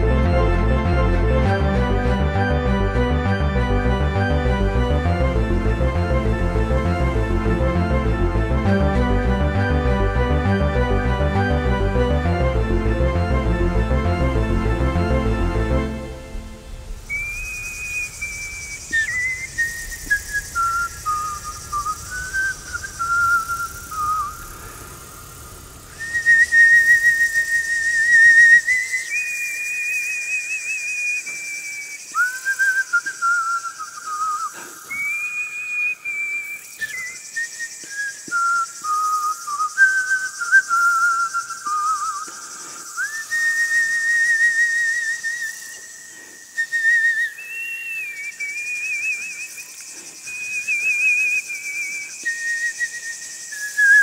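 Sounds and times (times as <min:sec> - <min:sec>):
person whistling a slow melody: 0:00.0 - 0:16.2, 0:17.0 - 0:24.6, 0:25.9 - 0:54.0.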